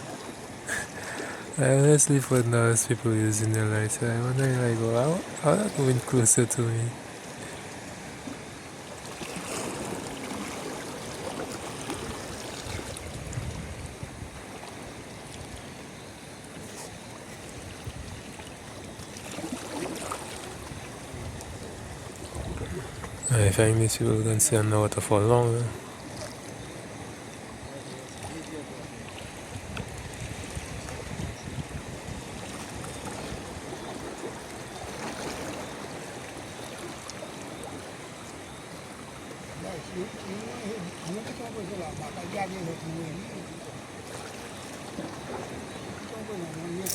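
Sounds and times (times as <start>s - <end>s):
sea water lapping: 0.0s - 46.9s.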